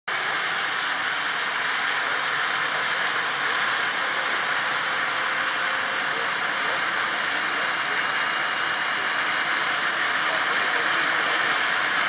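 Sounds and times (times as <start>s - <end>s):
model helicopter engine whining: 0.1s - 12.0s.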